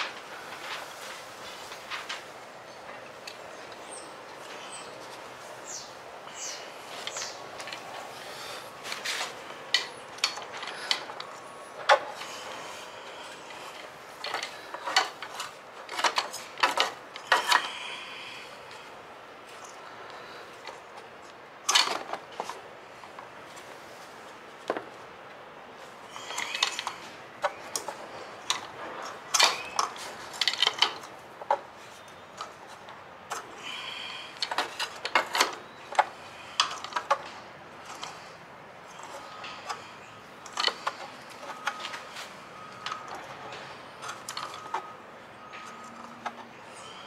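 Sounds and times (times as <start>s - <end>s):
hands handling plastic parts: 6.4s - 46.9s.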